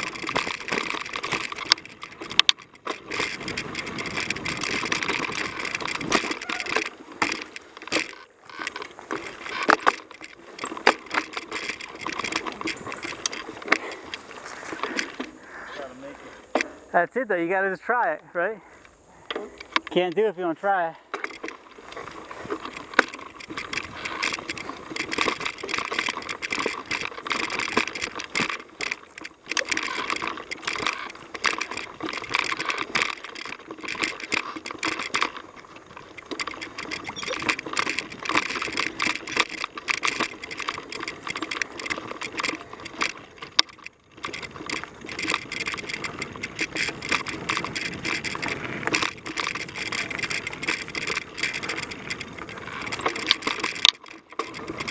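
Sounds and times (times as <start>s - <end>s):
bike parts rattling and clicking: 0.0s - 54.9s
tyre noise on dirt: 0.0s - 54.9s.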